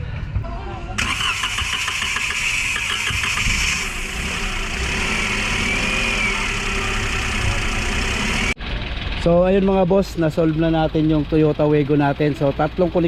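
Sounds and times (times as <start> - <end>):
car engine starting and running: 1.0 - 13.0.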